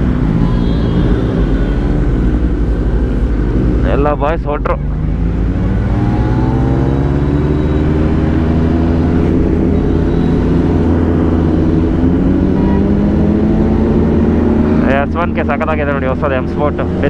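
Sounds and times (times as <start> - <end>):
motorbike engine revving up: 0.0 - 4.2, 4.8 - 15.6.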